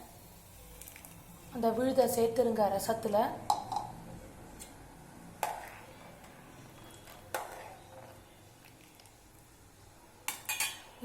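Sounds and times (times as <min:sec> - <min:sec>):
faint hiss of boiling liquid: 0:00.0 - 0:11.0.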